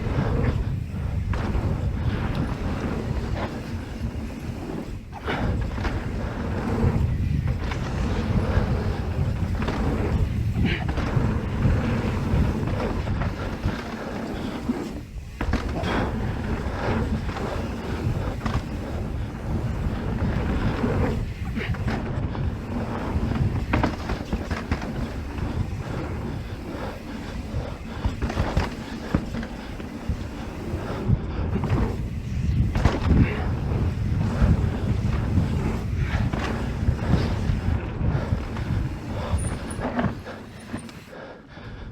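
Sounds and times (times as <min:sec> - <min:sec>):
bike knocks and rattles: 0:00.0 - 0:41.1
tyres on dirt: 0:00.0 - 0:41.1
wind buffeting microphone: 0:00.0 - 0:41.9.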